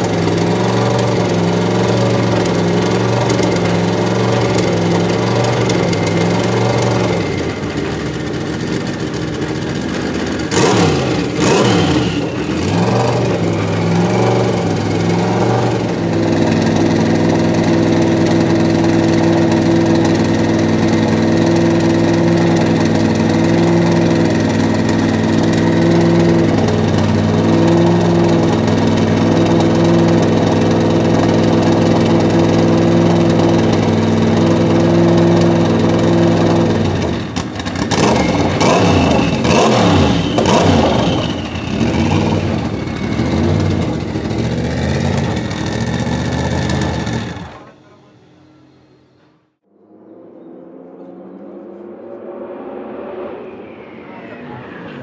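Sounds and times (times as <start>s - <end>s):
car engine idling and revving: 0.0s - 47.8s.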